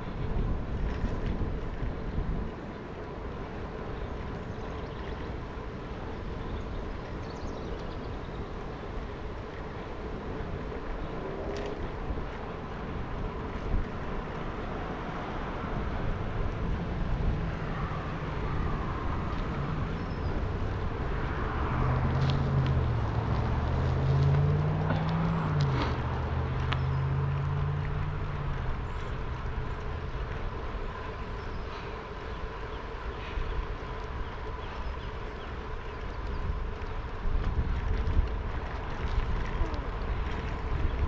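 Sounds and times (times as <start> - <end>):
vehicle engine hum passing: 0.0 - 41.0
wind on microphone: 0.0 - 41.0
bicycle tyre noise: 7.9 - 41.0.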